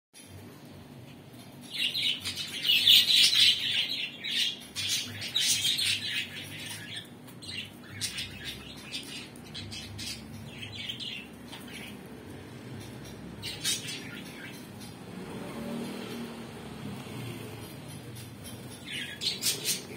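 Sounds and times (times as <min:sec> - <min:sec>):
budgerigars chirping: 0:01.6 - 0:15.4, 0:17.6 - 0:19.9.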